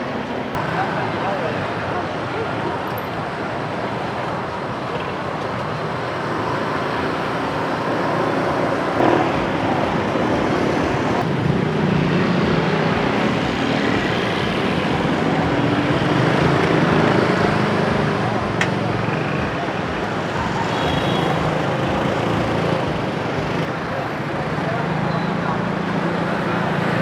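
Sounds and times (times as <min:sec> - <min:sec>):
motorbikes and cars passing: 0:00.0 - 0:27.0.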